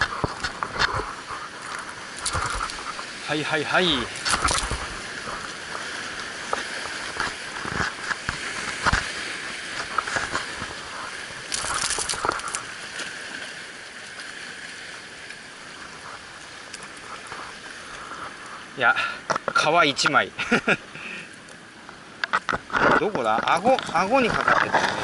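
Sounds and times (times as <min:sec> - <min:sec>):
sea water washing over rocks: 0:00.0 - 0:20.4.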